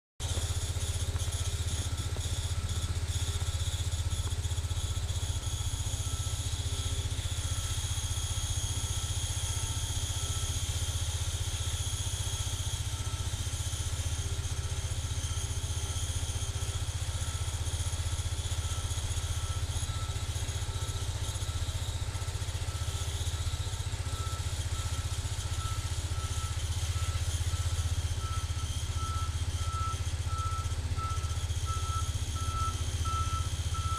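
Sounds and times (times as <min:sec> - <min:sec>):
garden tractor engine running: 0:00.2 - 0:33.9.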